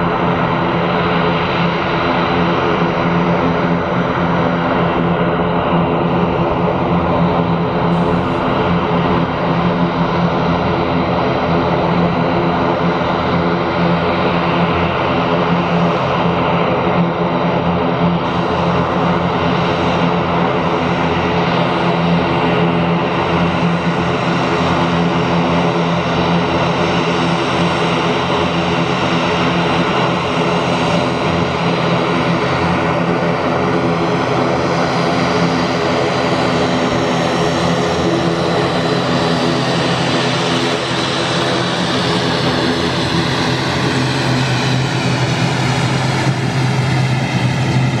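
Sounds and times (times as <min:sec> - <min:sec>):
propeller drone: 0:00.0 - 0:48.0
turbine whine: 0:00.0 - 0:48.0.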